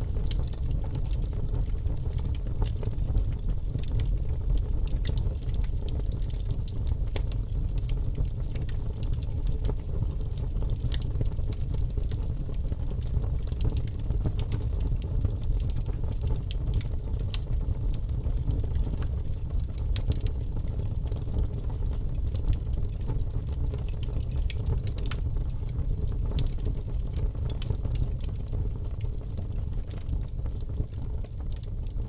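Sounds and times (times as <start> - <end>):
burning logs crackling and popping: 0.0 - 32.0
wood fire burning: 0.0 - 32.0.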